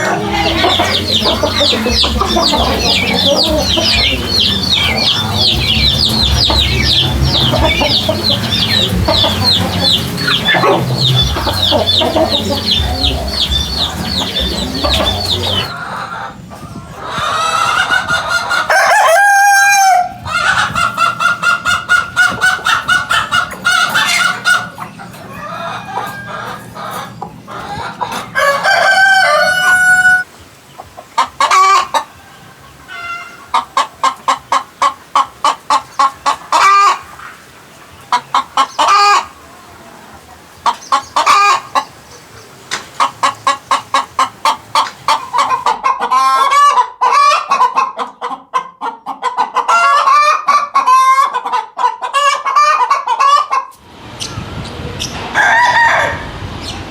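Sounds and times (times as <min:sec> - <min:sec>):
chickens clucking rapidly: 0:00.0 - 0:54.2
chickens calling: 0:00.0 - 0:56.9.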